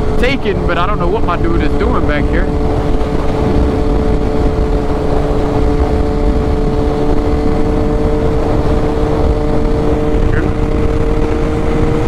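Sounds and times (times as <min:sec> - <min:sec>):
motorcycle engine cruising: 0:00.0 - 0:12.0
wind rush on microphone: 0:00.0 - 0:12.0.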